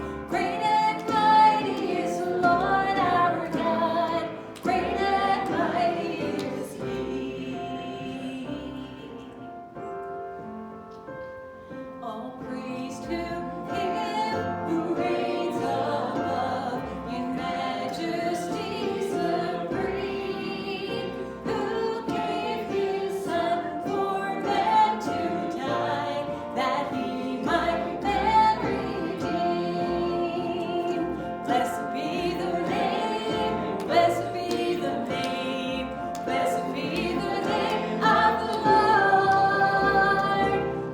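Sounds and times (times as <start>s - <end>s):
congregation singing with music: 0.0s - 40.9s.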